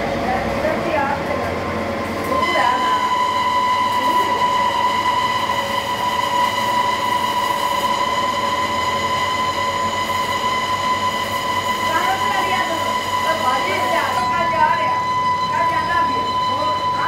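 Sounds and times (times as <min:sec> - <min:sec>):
workshop machinery whining: 0:00.0 - 0:17.0.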